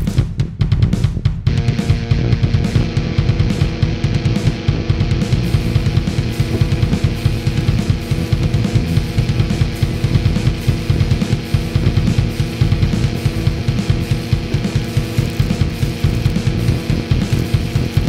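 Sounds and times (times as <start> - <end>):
heavy metal music: 0.0 - 18.0
rapid drums: 0.0 - 18.0
electric guitar: 1.4 - 18.0.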